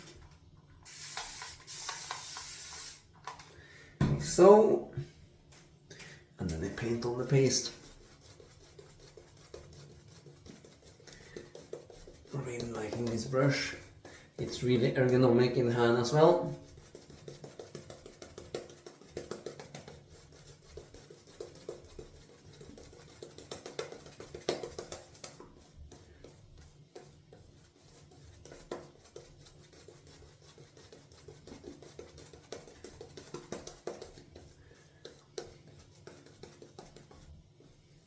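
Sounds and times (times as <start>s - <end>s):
shaving brush scrubbing: 0.8s - 3.4s, 6.4s - 38.0s.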